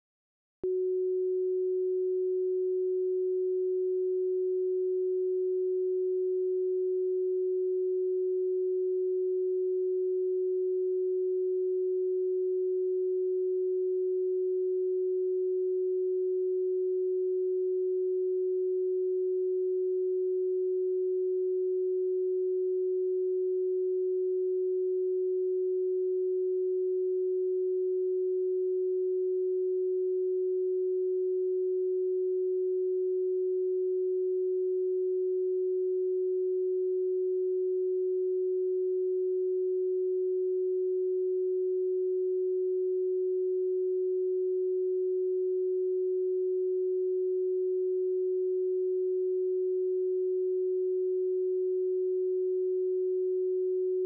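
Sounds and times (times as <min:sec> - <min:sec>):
pure sine tone: 0:00.6 - 0:54.0.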